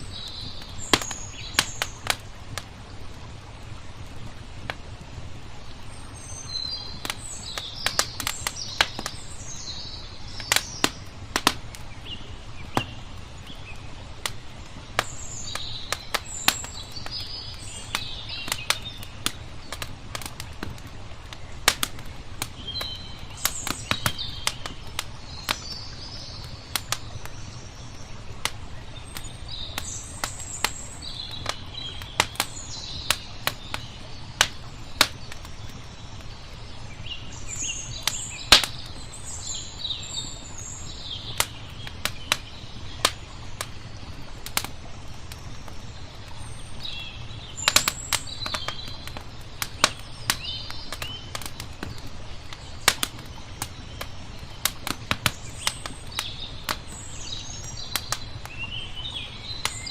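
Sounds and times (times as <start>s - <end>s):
small birds chirping: 0.0s - 3.8s, 4.7s - 59.9s
wood fire crackling: 0.0s - 59.9s.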